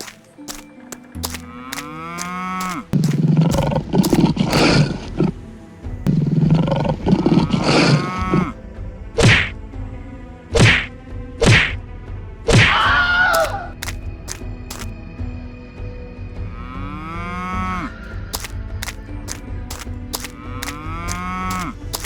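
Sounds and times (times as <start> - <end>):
music: 0.0 - 22.0.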